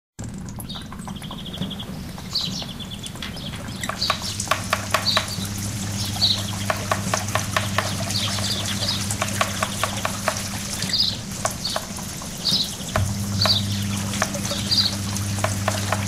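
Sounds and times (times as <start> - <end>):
steady low hum: 0.2 - 16.0
birds chirping: 0.4 - 16.0.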